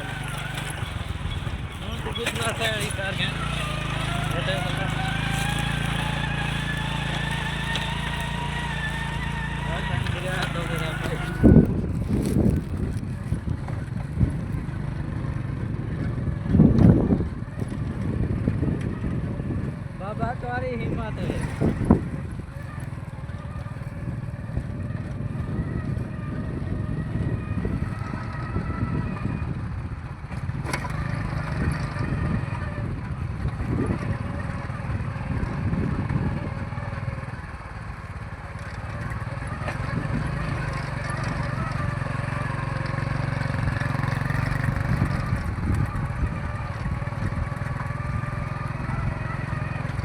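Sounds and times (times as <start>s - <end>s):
engine rumbling: 0.0s - 50.0s.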